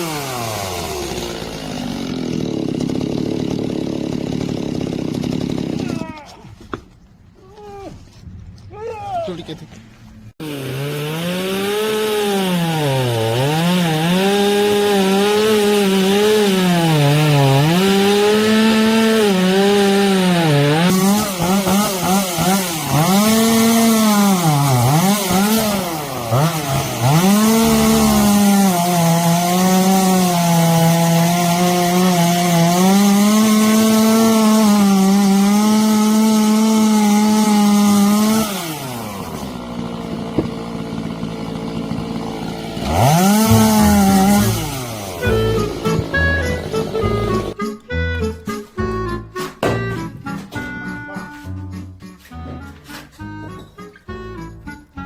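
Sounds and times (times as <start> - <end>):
chainsaw cutting wood: 0.0 - 6.2, 10.4 - 48.8, 49.4 - 51.3.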